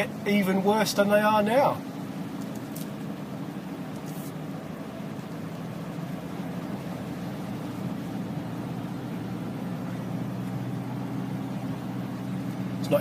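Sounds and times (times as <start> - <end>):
van engine running: 0.0 - 13.0.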